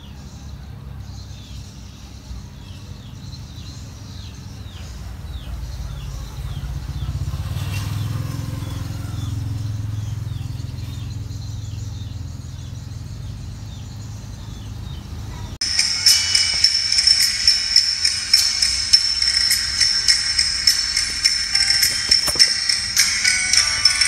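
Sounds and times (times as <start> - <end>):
bird chirping: 0.0 - 24.0
low engine rumble: 1.9 - 24.0.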